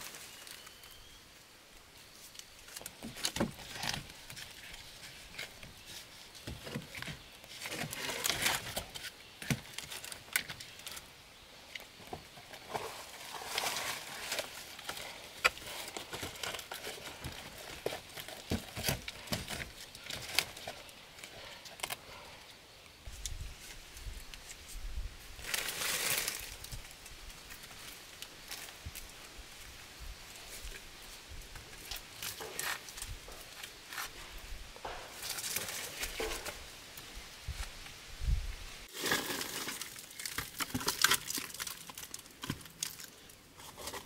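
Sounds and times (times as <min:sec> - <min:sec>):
rustling dry leaves and sticks: 0:00.0 - 0:44.0.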